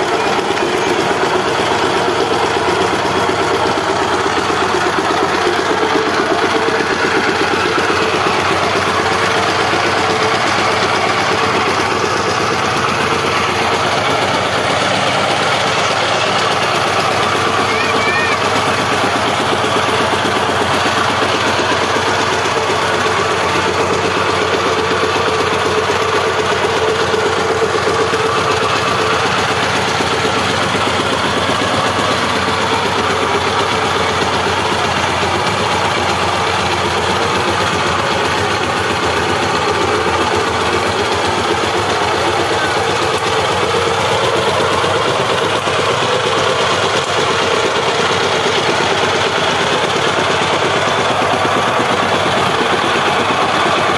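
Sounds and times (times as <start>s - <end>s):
diesel tiller engine running: 0.0s - 53.9s.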